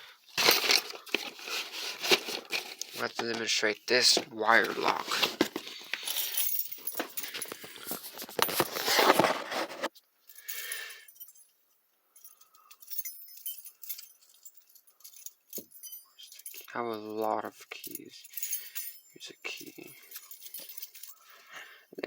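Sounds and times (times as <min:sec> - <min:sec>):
lock and keys rattling: 0:00.3 - 0:11.6, 0:12.2 - 0:21.7
keys jingling: 0:00.4 - 0:09.4, 0:12.2 - 0:17.1, 0:17.7 - 0:21.7.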